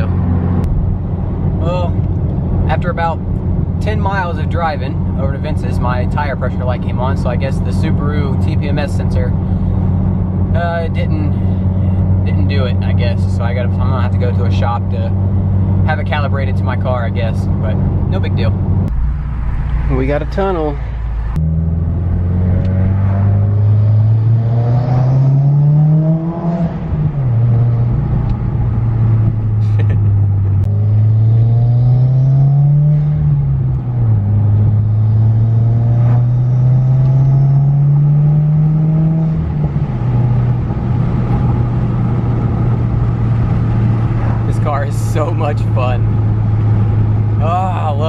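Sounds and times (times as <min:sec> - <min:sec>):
car engine accelerating hard: 0:00.0 - 0:48.0.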